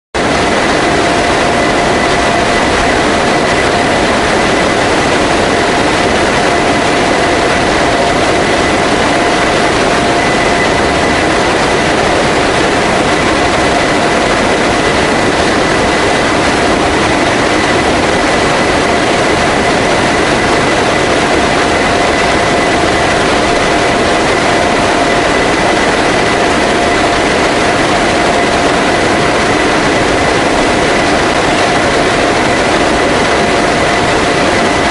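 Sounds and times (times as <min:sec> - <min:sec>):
slipstream rushing: 0:00.2 - 0:34.9
turboprop engines whining: 0:00.2 - 0:34.9.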